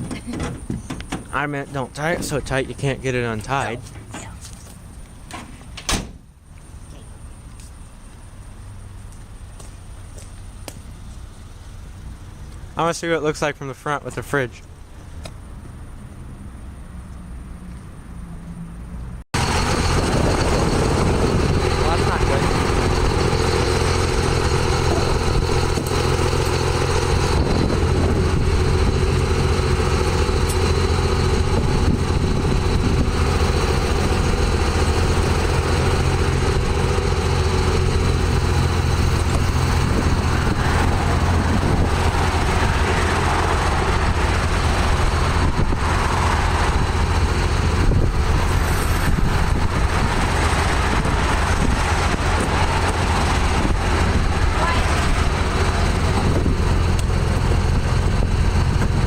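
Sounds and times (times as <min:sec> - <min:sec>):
vehicle engine idling: 0:06.3 - 0:59.0.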